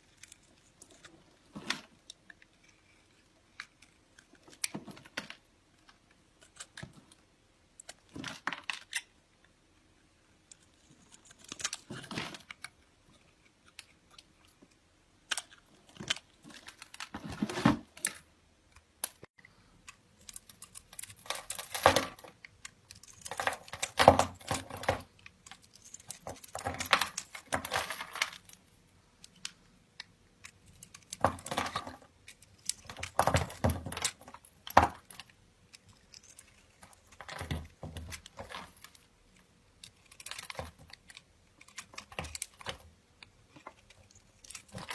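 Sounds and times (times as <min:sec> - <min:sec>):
small crisp clicks and rustles: 0:00.0 - 0:44.9.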